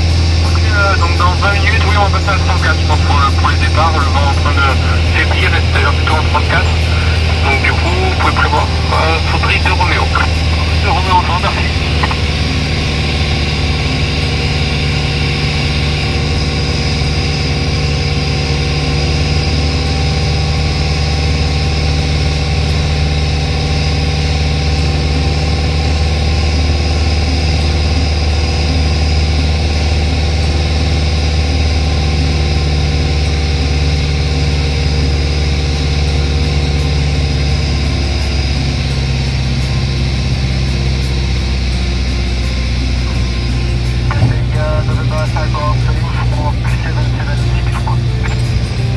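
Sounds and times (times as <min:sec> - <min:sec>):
propeller aircraft engine droning: 0:00.0 - 0:48.9.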